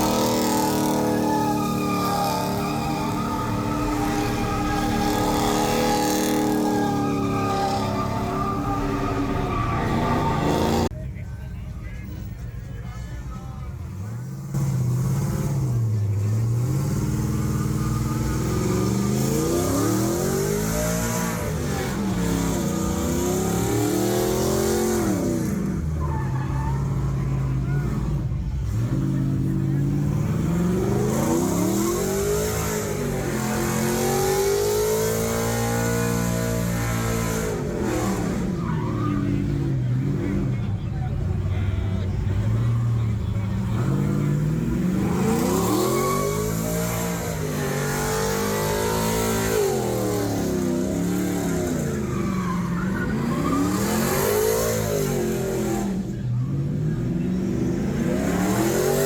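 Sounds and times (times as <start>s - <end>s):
car engine revving: 0.0s - 10.9s, 13.8s - 59.0s
tyres skidding: 0.0s - 59.0s.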